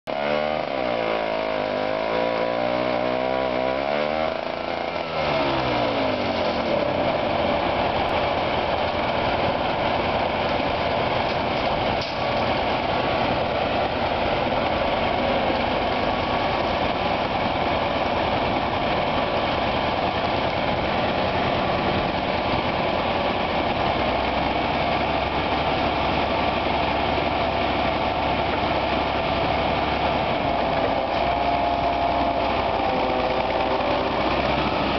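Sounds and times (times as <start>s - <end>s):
excavator diesel engine running: 0.1s - 34.9s
heavy low rumble: 5.4s - 34.9s.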